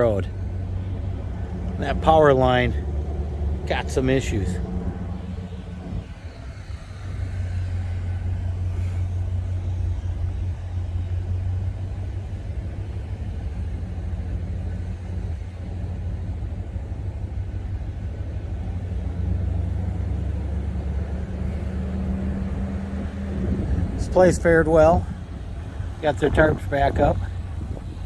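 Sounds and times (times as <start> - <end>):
truck engine and road rumble: 0.0 - 28.0.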